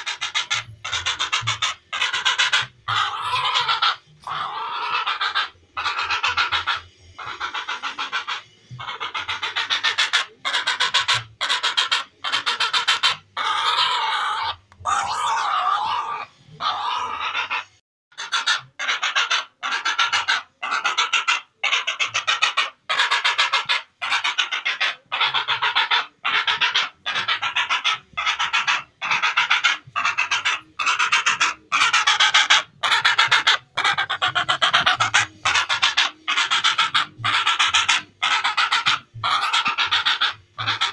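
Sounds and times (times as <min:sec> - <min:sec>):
herons rattling calls: 0:00.0 - 0:40.9.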